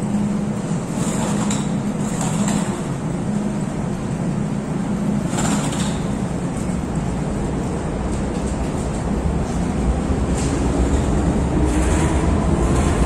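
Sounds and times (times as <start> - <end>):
train equipment low hum: 0.0 - 13.0.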